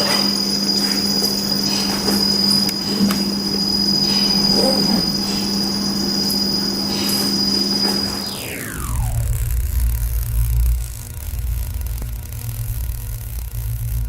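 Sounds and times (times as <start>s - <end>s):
low hum: 0.0s - 14.0s
servo motor whine: 0.0s - 14.0s.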